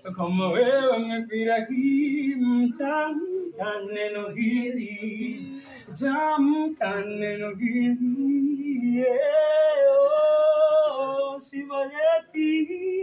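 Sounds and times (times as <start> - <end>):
voices singing unaccompanied: 0.0 - 13.0.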